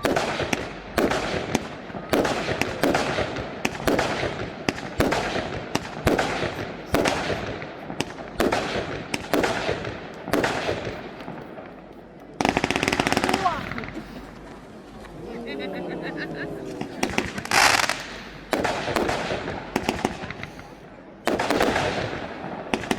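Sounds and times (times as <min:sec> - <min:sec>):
fireworks bangs: 0:00.0 - 0:14.9, 0:16.6 - 0:22.9.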